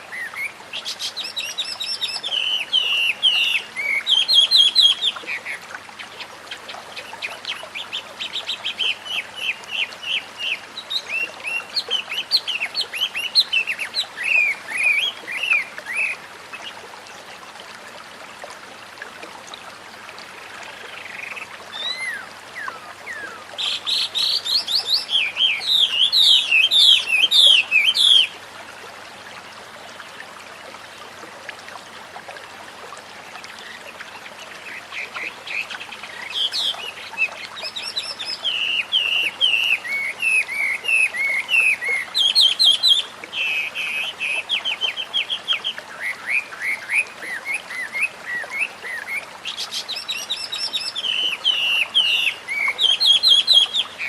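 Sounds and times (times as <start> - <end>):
flowing water hiss: 0.0 - 54.0.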